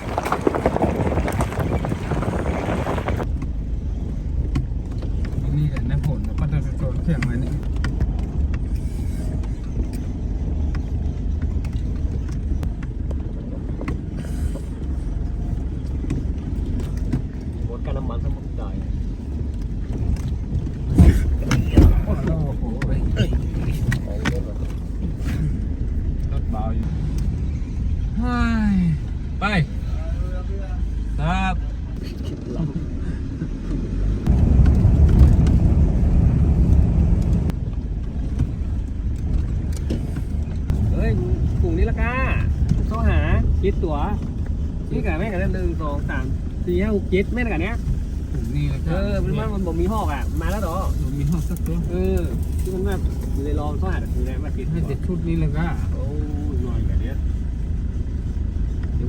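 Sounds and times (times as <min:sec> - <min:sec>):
light rattles and knocks: 0:00.0 - 0:27.8, 0:31.7 - 0:59.0
vehicle engine and road rumble: 0:00.0 - 0:59.0.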